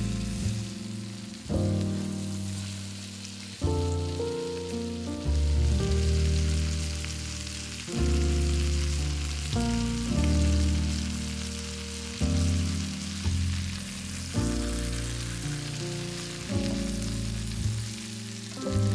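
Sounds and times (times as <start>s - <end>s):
chicken sizzling in a pan: 0.0s - 18.9s
slow low chord music: 0.0s - 18.9s.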